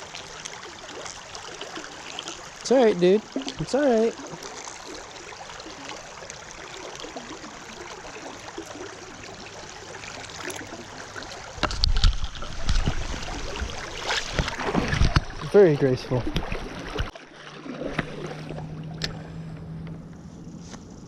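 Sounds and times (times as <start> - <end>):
water sloshing and splashing: 0.0 - 19.7
river flowing: 0.0 - 20.6.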